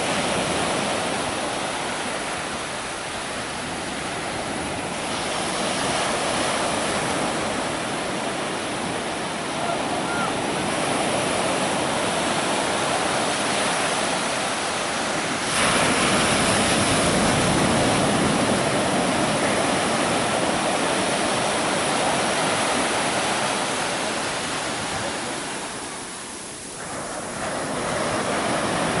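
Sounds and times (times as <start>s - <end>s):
sea waves washing: 0.0s - 29.0s
wave breaking: 0.0s - 29.0s.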